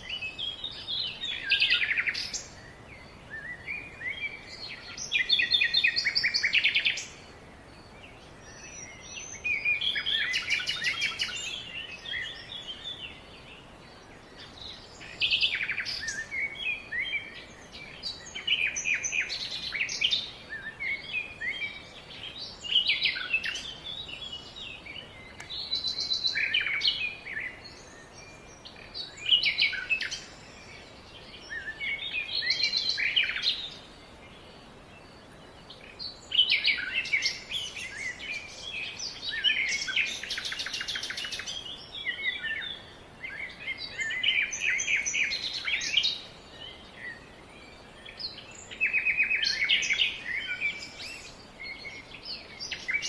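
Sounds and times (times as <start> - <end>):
songbirds singing and calling: 0.0 - 53.0.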